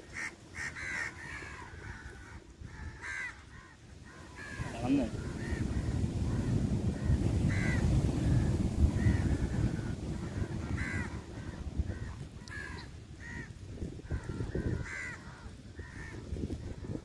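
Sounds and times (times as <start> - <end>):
crows cawing: 0.0 - 17.0.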